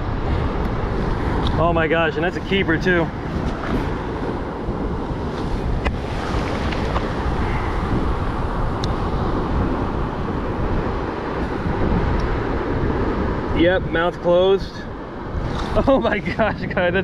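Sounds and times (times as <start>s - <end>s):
surf washing on beach: 0.0s - 17.0s
wave running up sand: 0.0s - 17.0s
wind buffeting microphone: 0.0s - 17.0s.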